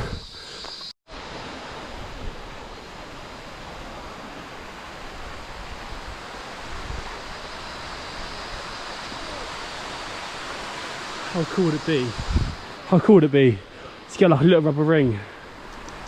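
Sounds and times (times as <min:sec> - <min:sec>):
waterfall rushing: 0:01.1 - 0:16.0.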